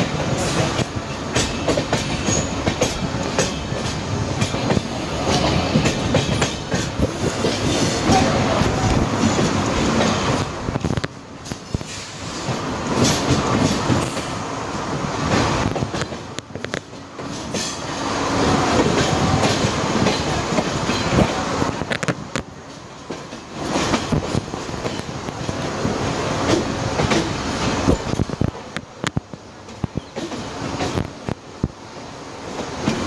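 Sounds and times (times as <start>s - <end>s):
train wheels clattering over rail joints: 0.0s - 14.5s, 15.2s - 33.0s.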